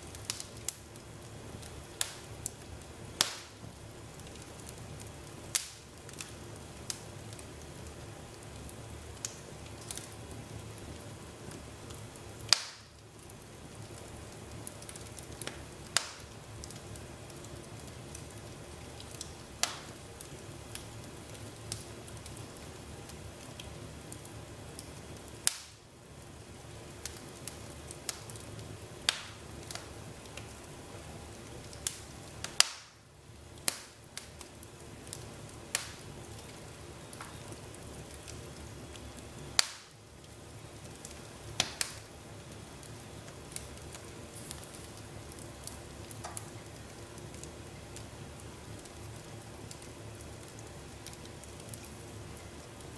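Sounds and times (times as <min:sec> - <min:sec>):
fire crackling and popping: 0:00.0 - 0:52.9
low hiss: 0:00.0 - 0:52.9.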